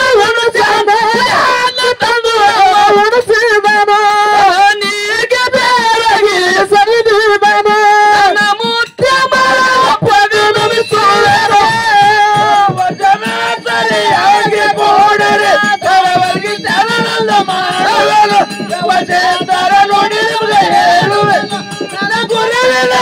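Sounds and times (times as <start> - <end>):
men singing folk song: 0.0 - 23.0.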